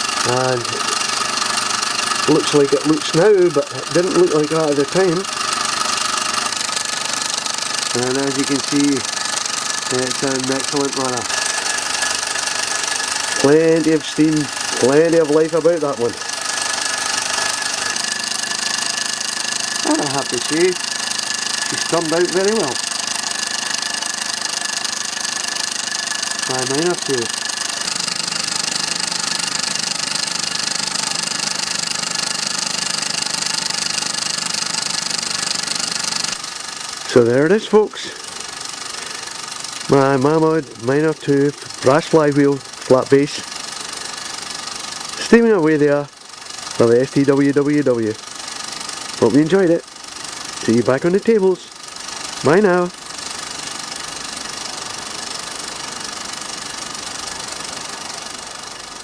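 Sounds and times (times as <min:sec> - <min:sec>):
steam hissing: 0:00.0 - 0:59.0
toy steam engine chuffing: 0:00.0 - 0:59.0.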